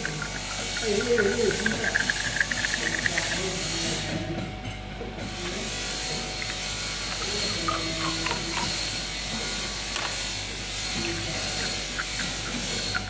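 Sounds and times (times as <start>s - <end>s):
filling machine hum and air hiss: 0.0s - 13.0s.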